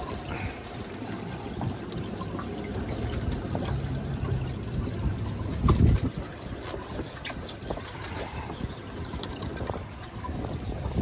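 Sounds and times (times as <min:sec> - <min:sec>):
low steady hum: 0:00.0 - 0:11.0
water lapping against boat: 0:00.0 - 0:11.0.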